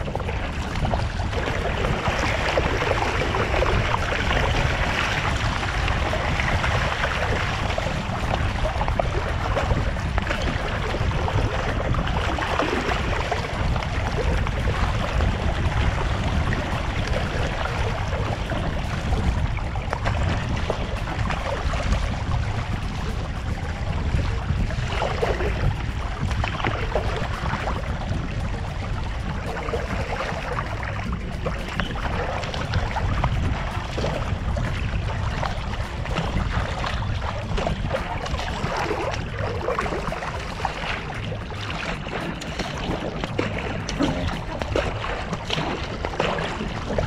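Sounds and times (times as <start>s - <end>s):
low rumble: 0.0s - 47.0s
paddle splashes: 0.0s - 47.0s
water rushing along hull: 0.0s - 47.0s.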